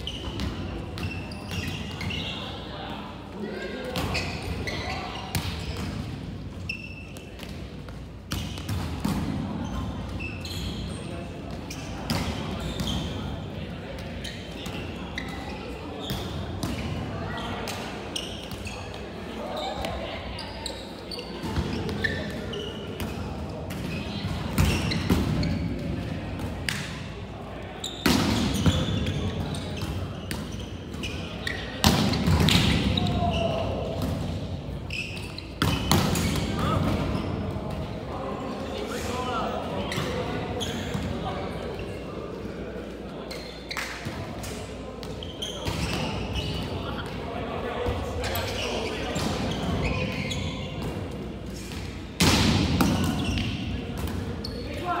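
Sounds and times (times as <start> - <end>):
murmur of distant voices: 0.0 - 55.0.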